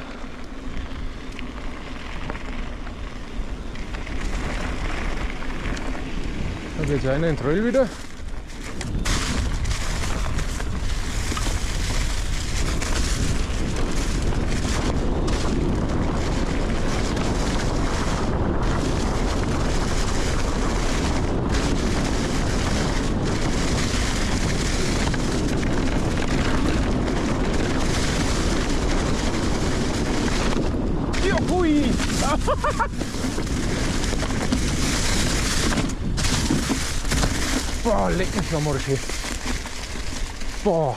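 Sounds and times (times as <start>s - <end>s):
mountain bike rattling on trail: 0.0s - 40.9s
wind buffeting microphone: 0.0s - 40.9s.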